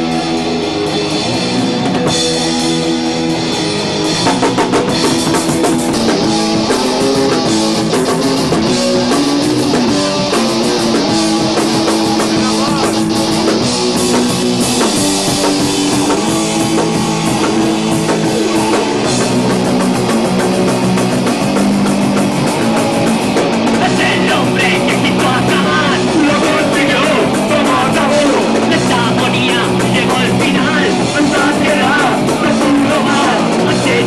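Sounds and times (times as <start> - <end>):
live punk rock band: 0.0 - 34.0.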